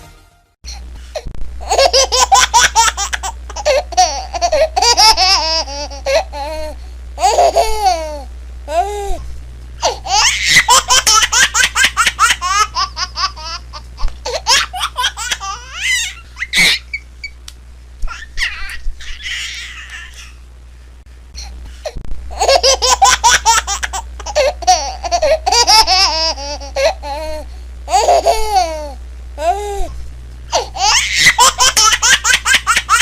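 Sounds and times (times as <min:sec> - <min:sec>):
low steady hum: 0:00.0 - 0:33.0
baby laughing: 0:01.6 - 0:08.8, 0:09.8 - 0:17.0, 0:18.0 - 0:20.4, 0:22.3 - 0:29.6, 0:30.5 - 0:33.0.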